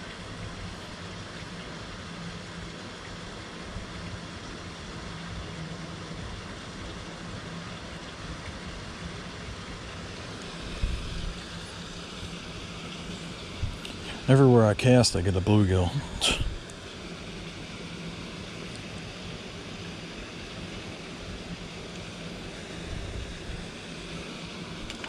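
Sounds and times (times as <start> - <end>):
constant hiss: 0.0 - 25.0
low even hum: 0.0 - 25.0.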